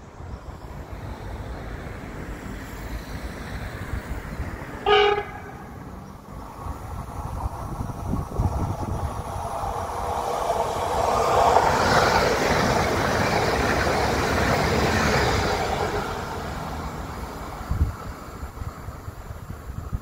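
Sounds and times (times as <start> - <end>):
train passing on rails: 0.0 - 20.0.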